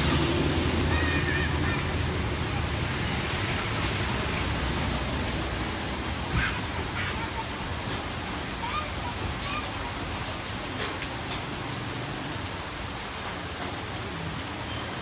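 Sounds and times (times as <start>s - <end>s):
steady rain falling: 0.0s - 15.0s
vehicle engine rumble: 0.0s - 15.0s.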